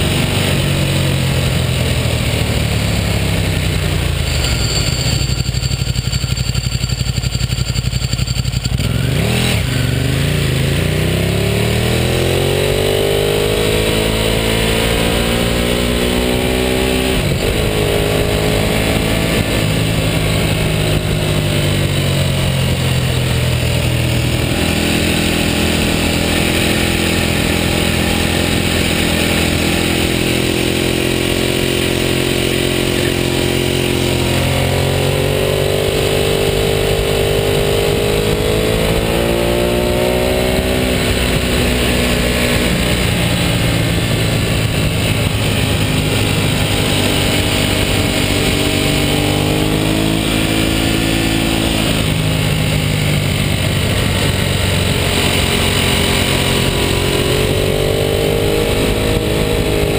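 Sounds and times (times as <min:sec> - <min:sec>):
motorcycle engine revving: 0:00.0 - 0:59.9
wind and road noise: 0:00.0 - 0:59.9.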